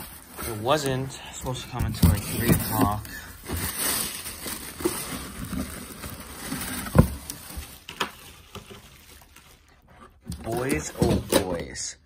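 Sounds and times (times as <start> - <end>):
plastic wrap rustling: 0.0 - 11.8.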